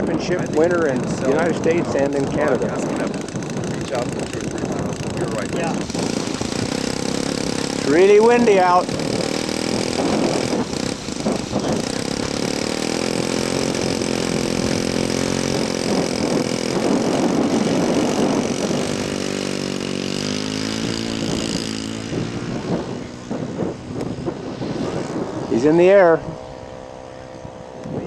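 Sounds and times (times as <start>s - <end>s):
model airplane engine running: 0.0s - 28.0s.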